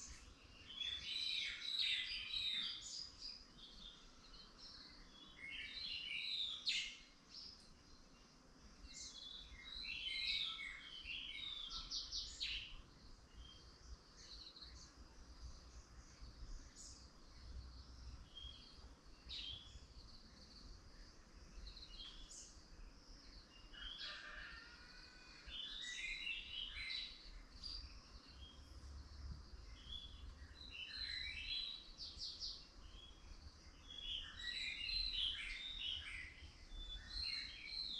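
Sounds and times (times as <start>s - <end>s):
songbirds chirping and singing: 0.0s - 37.9s.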